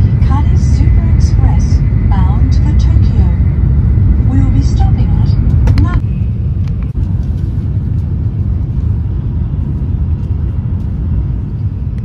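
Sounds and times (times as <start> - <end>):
train rumbling inside car: 0.0 - 12.0.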